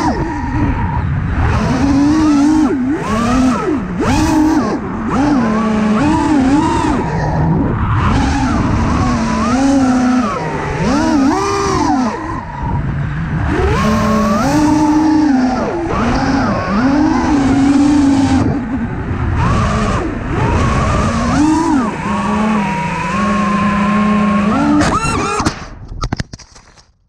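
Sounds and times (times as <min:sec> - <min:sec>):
drone motors whining: 0:00.0 - 0:25.5.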